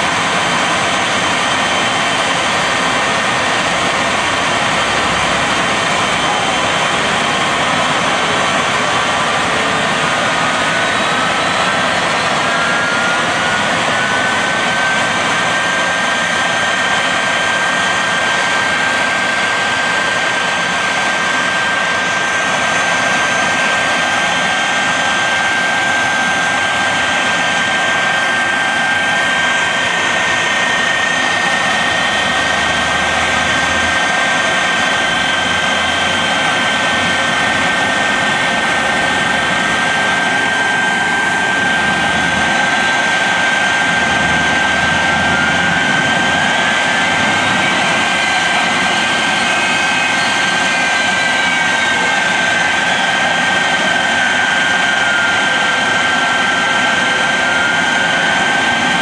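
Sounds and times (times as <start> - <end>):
jet engines idling: 0.0 - 59.0
rising whine: 0.0 - 59.0.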